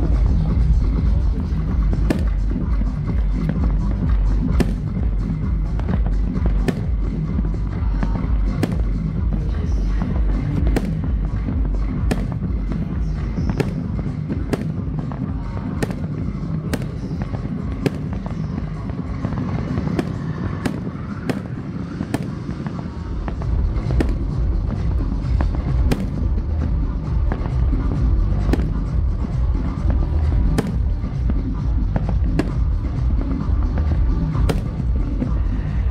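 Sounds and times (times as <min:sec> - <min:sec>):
fireworks bursting with sharp bangs: 0:00.0 - 0:35.9
music playing: 0:00.0 - 0:35.9
steady low rumble: 0:00.0 - 0:35.9.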